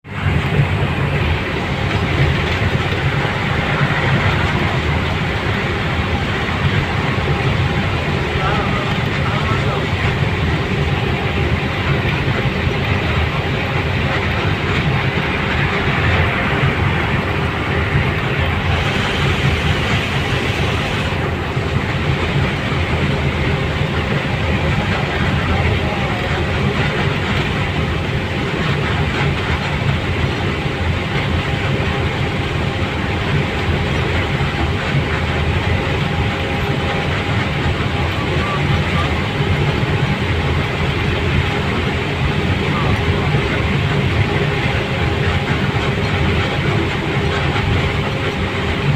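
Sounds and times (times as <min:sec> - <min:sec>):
moving vehicle rumbling: 0:00.0 - 0:48.9.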